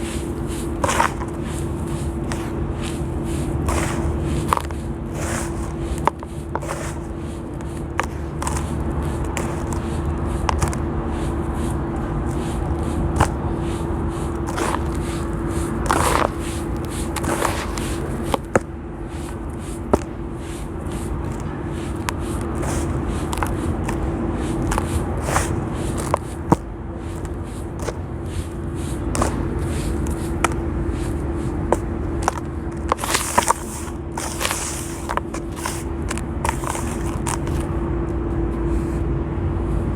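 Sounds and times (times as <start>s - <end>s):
sand blocks crumbling and crunching: 0.0s - 37.7s
steady low hum: 0.0s - 39.9s.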